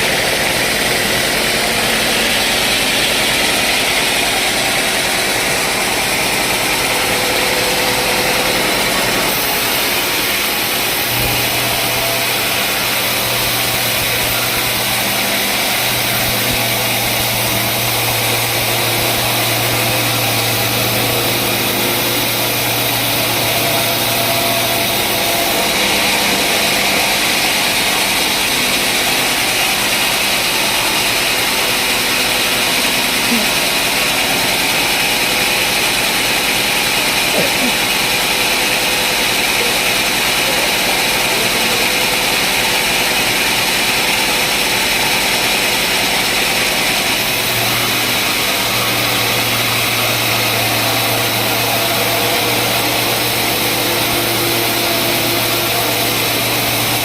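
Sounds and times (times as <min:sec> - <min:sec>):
machine humming: 0:00.0 - 0:57.0
saw cutting through log: 0:00.0 - 0:57.0.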